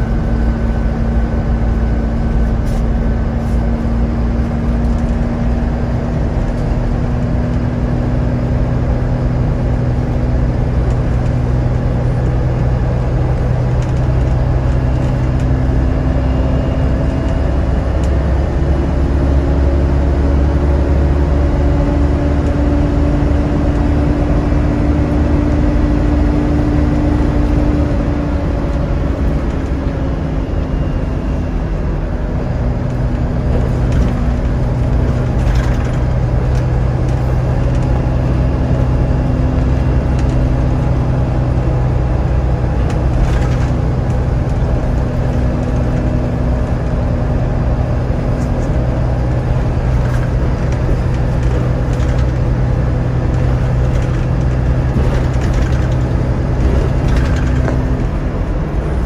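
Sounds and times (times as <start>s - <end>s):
bus diesel engine rumble: 0.0s - 59.0s
droning engine whine: 0.0s - 59.0s.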